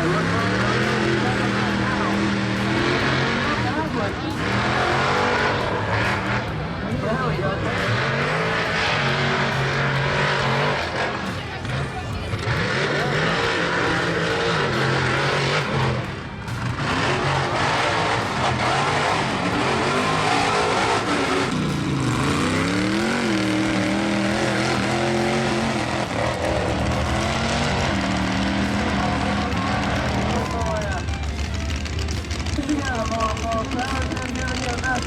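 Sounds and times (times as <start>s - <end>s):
truck engine revving hard: 0.0s - 35.0s.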